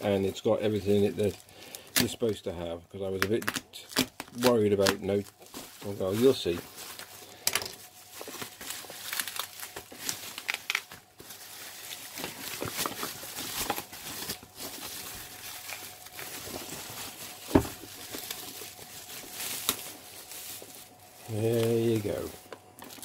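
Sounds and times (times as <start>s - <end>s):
bubble wrap crinkling: 0.0s - 23.0s.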